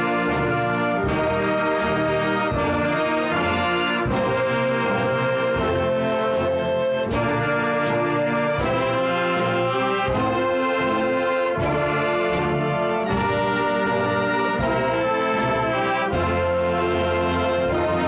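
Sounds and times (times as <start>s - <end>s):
orchestral music with brass chords: 0.0s - 18.0s.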